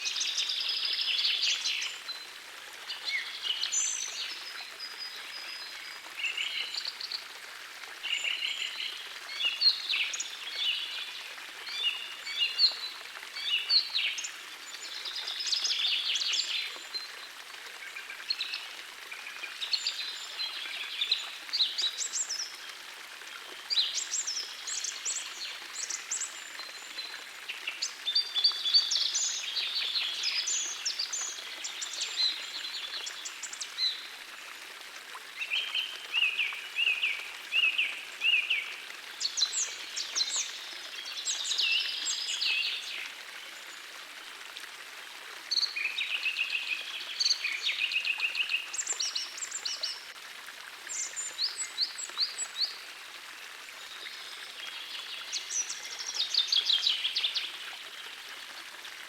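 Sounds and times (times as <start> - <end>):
gentle stream rushing: 0.0 - 59.0.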